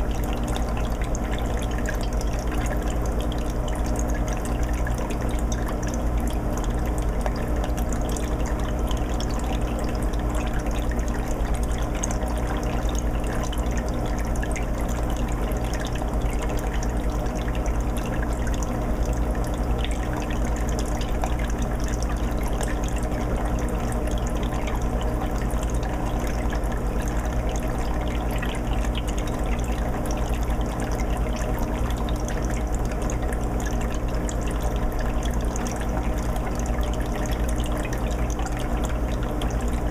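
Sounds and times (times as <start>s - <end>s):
dripping ticks: 0.0s - 39.9s
water trickling and splashing: 0.0s - 39.9s.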